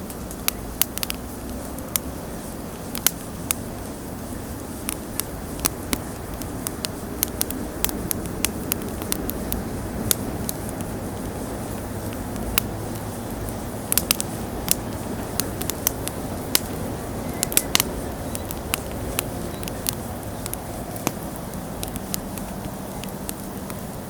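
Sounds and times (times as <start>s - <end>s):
bonfire crackling and popping: 0.0s - 24.0s
low rush of fire: 0.0s - 24.0s.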